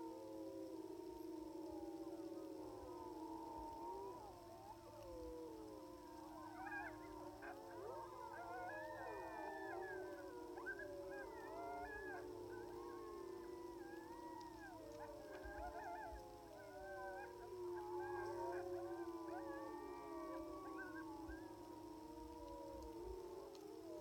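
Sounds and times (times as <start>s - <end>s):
distant wolves howling: 0.0s - 24.0s.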